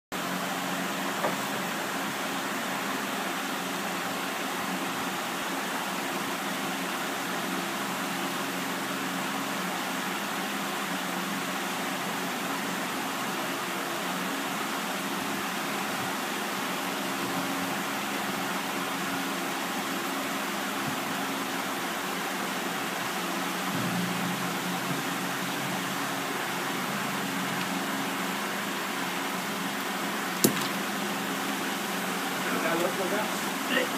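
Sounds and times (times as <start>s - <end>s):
steady hum: 0.2s - 33.9s.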